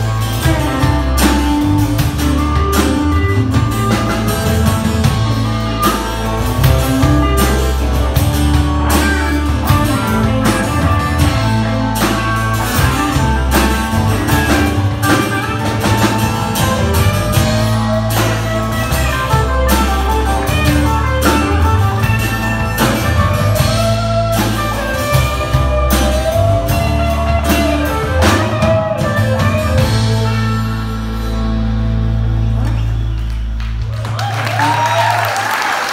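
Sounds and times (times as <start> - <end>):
drum kit steady beat: 0.0 - 31.0
electric guitars bending lead lines: 0.0 - 33.9
bass guitar: 0.0 - 35.9.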